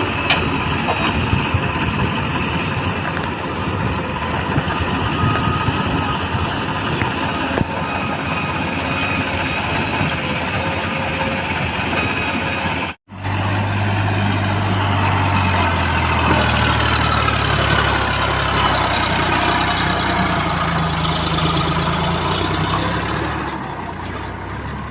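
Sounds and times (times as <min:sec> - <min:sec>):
diesel engines running: 0:00.0 - 0:24.9.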